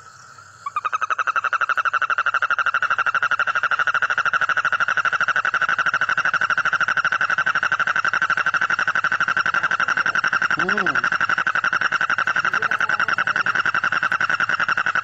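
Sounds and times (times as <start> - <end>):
toad trilling: 0.6 - 15.0.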